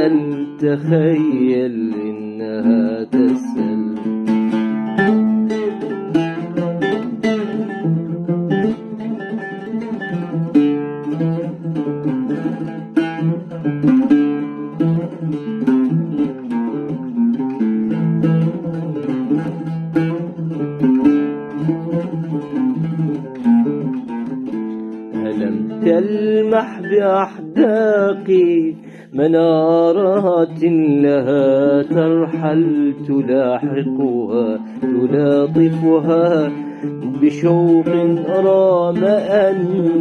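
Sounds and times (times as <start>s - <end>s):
oud plucked melody: 0.0s - 40.0s.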